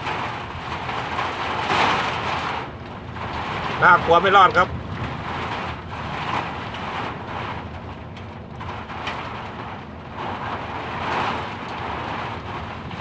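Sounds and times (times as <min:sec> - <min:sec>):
storm wind gusting: 0:00.0 - 0:13.0
wind buffeting microphone: 0:00.0 - 0:13.0.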